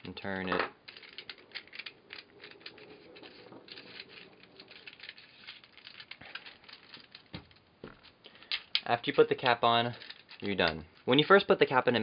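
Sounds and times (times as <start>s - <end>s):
plastic pieces clicking and rattling: 0.0s - 11.3s.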